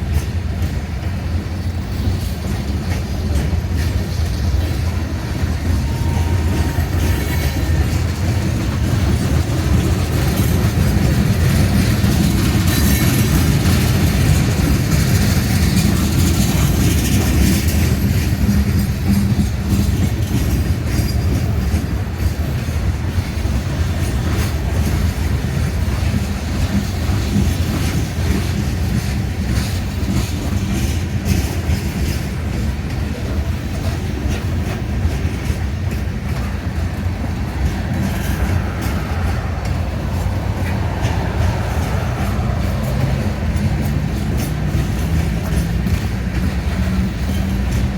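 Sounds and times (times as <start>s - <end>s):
freight train rolling past: 0.0s - 47.9s
wheels clacking over rail joints: 0.0s - 47.9s.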